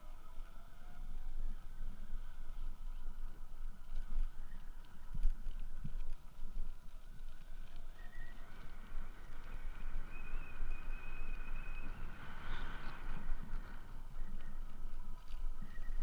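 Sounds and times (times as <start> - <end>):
faint thin whines: 0.0 - 16.0
tyre noise on asphalt: 0.0 - 16.0
wind buffeting microphone: 0.0 - 16.0.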